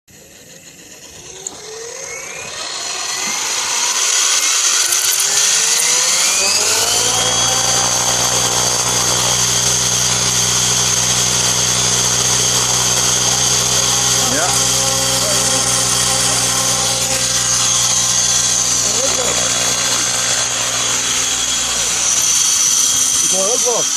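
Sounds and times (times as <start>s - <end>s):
rc helicopter motor whine: 0.1s - 23.9s
strange mechanical noise: 0.1s - 23.9s.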